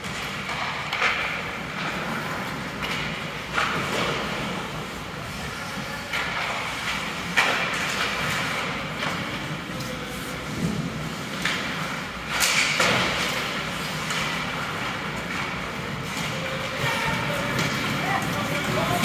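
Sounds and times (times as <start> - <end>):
hockey sticks and puck knocking: 0.0 - 5.0, 6.0 - 19.0
ice rink noise: 0.0 - 19.0.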